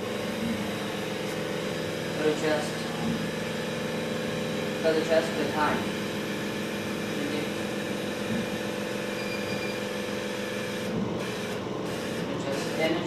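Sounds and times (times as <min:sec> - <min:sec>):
motor and pump hum: 0:00.0 - 0:13.0.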